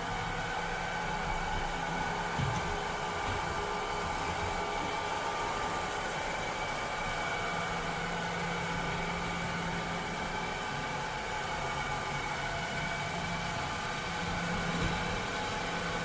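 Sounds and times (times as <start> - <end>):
robot vacuum cleaner whirring: 0.0 - 16.0.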